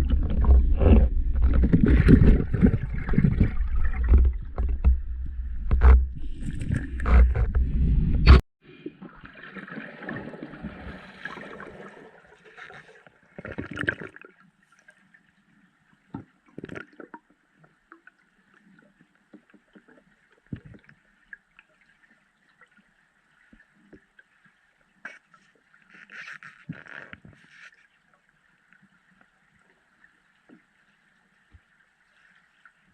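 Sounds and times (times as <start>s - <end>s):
water sloshing and gurgling: 0.0s - 32.9s.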